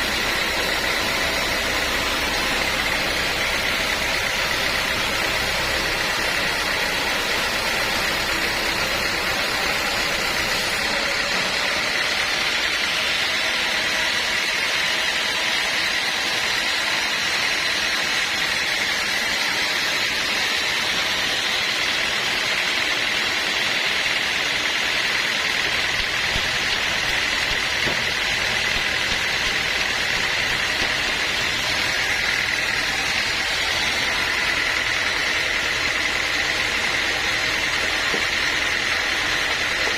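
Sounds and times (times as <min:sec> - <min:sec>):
high machine whine: 0:00.0 - 0:39.9
sawmill machinery drone: 0:00.0 - 0:39.9.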